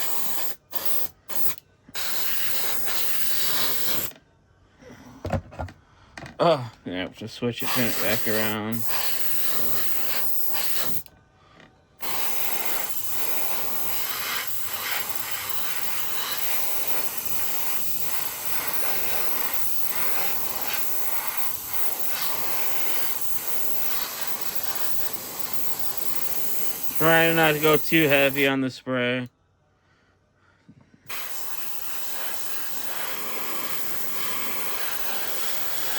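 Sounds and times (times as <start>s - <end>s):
aerosol spray can hissing: 0.0s - 4.2s, 7.6s - 11.1s, 12.0s - 28.6s, 31.1s - 35.9s.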